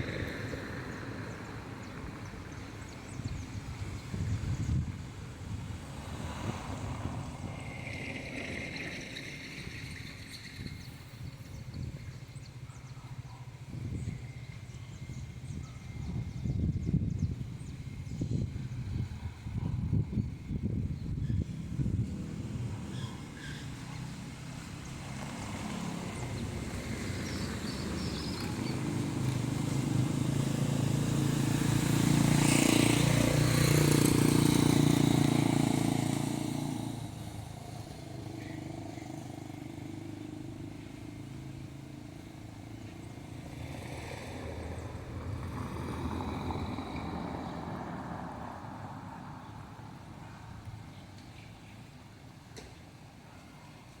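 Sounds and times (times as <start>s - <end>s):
vehicle engine passing by: 0.0s - 50.9s.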